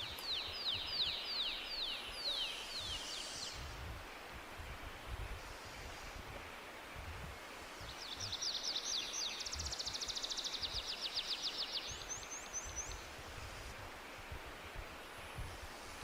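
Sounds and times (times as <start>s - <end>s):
songbird singing: 0.0s - 14.1s.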